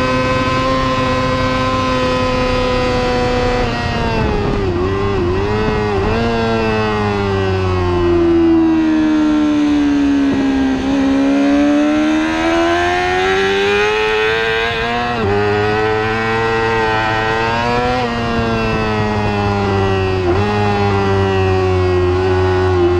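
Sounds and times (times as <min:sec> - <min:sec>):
racing motorcycle engine revving: 0:00.0 - 0:22.9.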